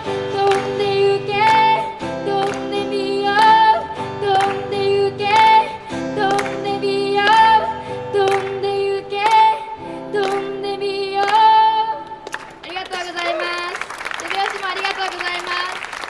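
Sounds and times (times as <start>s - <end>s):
acoustic guitar strumming: 0.0s - 13.2s
girl singing: 0.0s - 13.8s.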